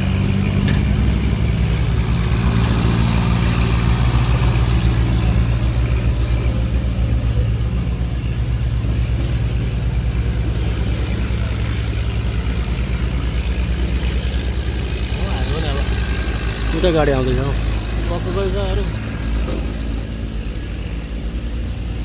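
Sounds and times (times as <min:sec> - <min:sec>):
heavy vehicle engine throbbing: 0:00.0 - 0:22.0.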